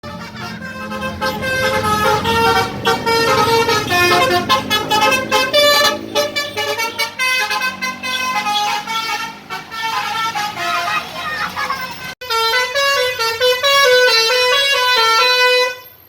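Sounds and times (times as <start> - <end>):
multi-tone bus horn melody: 0.0 - 16.0.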